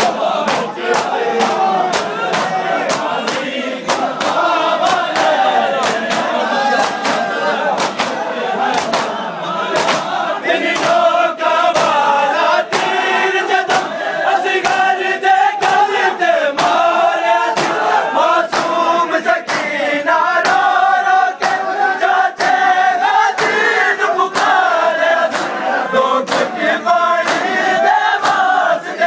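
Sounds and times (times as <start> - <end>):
crowd beating chests with hands: 0.0 - 29.0
men chanting together: 0.0 - 29.0.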